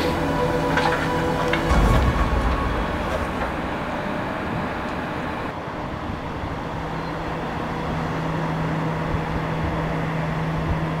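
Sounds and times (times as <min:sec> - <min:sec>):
excavator engine humming: 0:00.0 - 0:11.0.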